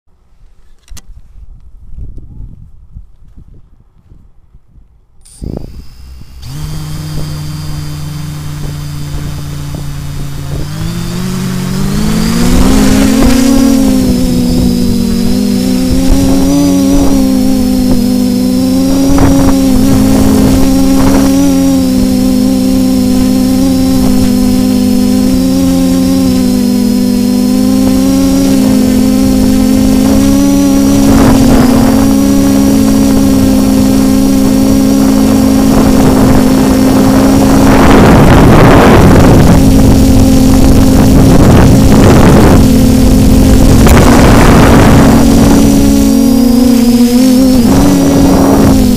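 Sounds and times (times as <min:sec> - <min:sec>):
wind gusts hitting microphone: 0:00.4 - 0:48.9
drone motors and propellers whining: 0:05.2 - 0:48.9.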